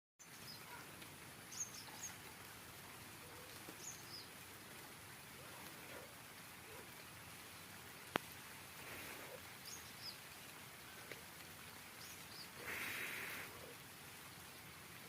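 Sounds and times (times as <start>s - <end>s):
light rain hiss: 0.2s - 15.0s.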